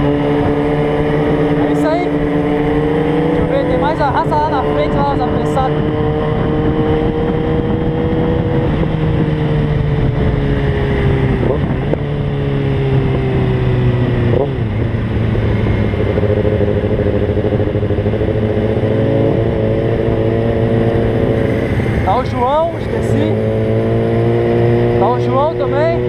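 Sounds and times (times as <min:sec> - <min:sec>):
motorcycle engine cruising: 0:00.0 - 0:26.0
wind and road rush: 0:00.0 - 0:26.0.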